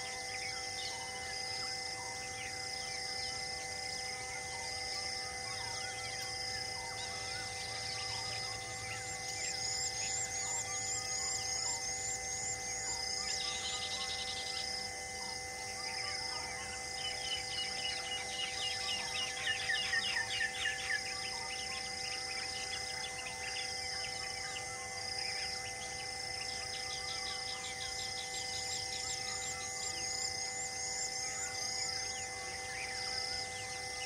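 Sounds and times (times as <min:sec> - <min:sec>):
faint steady tones: 0:00.0 - 0:34.0
insects chorus pulsing: 0:00.0 - 0:34.0.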